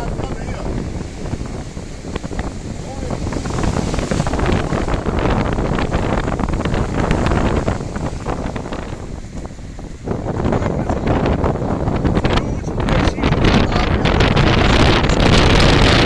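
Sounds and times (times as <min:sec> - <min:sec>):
surf breaking: 0:00.0 - 0:16.0
wind buffeting microphone: 0:00.0 - 0:16.0.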